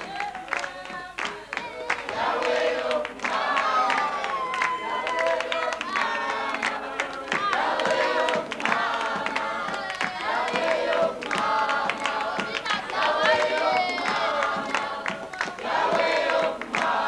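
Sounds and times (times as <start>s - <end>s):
children singing together: 0.0s - 17.0s
hand clapping: 0.0s - 17.0s.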